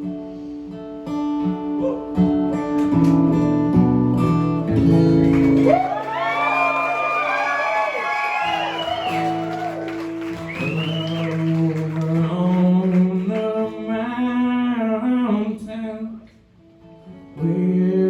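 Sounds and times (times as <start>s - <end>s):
acoustic guitar: 0.0s - 18.0s.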